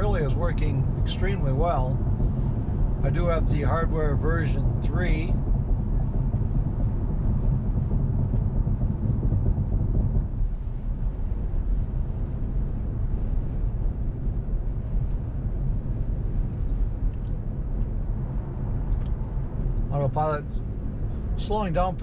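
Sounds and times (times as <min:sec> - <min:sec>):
road and tyre noise: 0:00.0 - 0:22.0.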